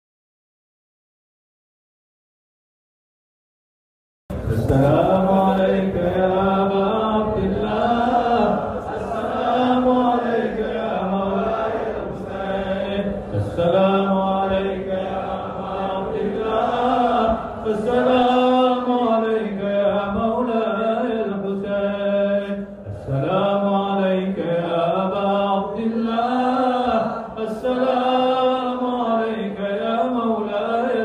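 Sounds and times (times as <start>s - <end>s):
person chanting melodically: 4.3s - 31.0s.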